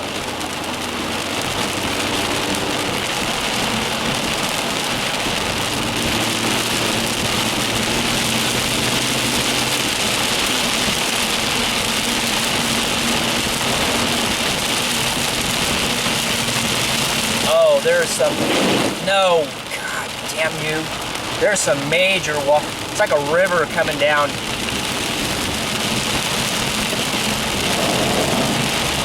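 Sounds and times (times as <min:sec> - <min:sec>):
water rushing around driving car: 0:00.0 - 0:29.0.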